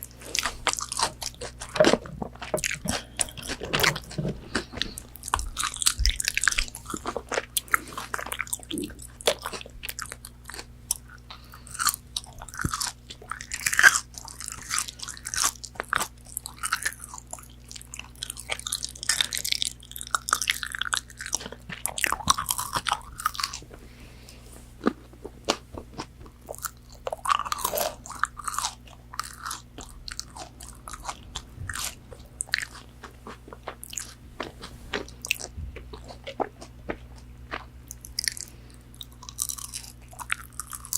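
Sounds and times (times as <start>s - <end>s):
crunchy bites: 0.0s - 23.8s, 24.8s - 40.9s
wet chewing: 0.0s - 40.9s.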